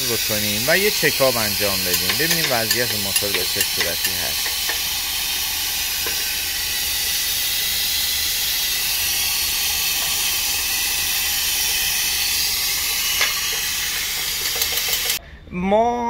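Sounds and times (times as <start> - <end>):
steady loud hiss: 0.0 - 15.2.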